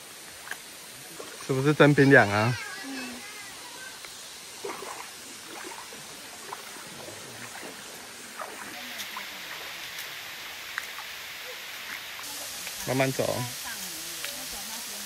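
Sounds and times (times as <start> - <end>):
stream water rushing: 0.0 - 15.0
water splashes and gurgles: 0.0 - 15.0.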